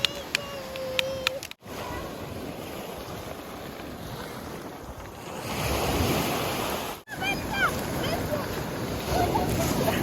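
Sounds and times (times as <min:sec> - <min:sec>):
wind buffeting microphone: 0:00.0 - 0:10.0
waves washing over pebbles: 0:01.6 - 0:10.0.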